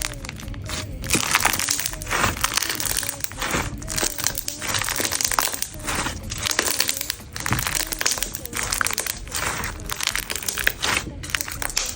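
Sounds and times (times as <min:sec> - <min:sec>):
crunchy slime squished by hand: 0:00.0 - 0:11.9.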